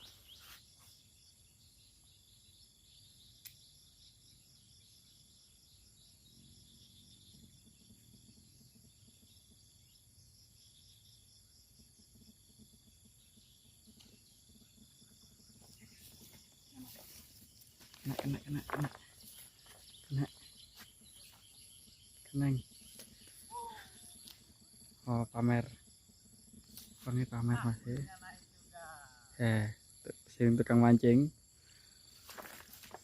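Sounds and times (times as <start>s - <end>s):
crickets buzzing: 0.0s - 33.0s.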